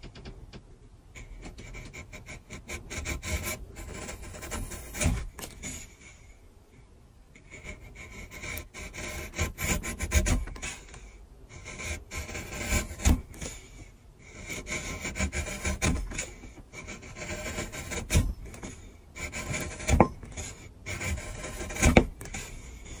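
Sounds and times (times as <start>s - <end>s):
steel scraper rasping on wood: 1.2s - 6.0s, 7.4s - 23.0s.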